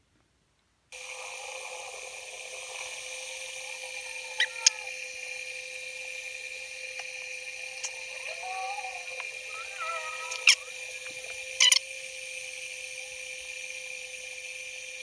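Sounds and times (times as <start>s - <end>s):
faint wavering tones: 1.0s - 13.5s
high-pitched whine with hiss: 1.0s - 15.0s.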